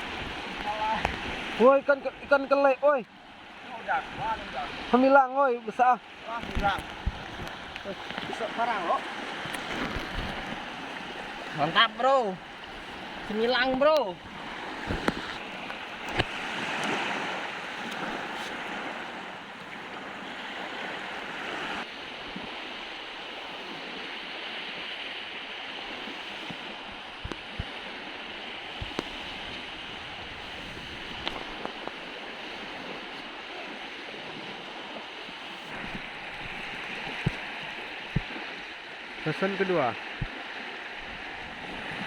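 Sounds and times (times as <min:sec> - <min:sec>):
wind on microphone: 0:00.0 - 0:02.4, 0:06.3 - 0:11.6, 0:12.4 - 0:19.1, 0:21.1 - 0:39.3, 0:40.0 - 0:42.0
surf washing onto beach: 0:00.0 - 0:42.0.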